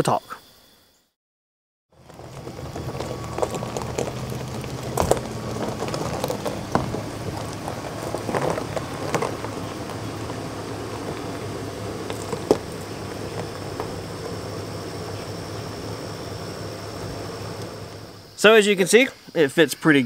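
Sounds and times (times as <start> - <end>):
low engine hum: 2.0 - 18.4
tyres crackling over gravel: 2.0 - 18.4.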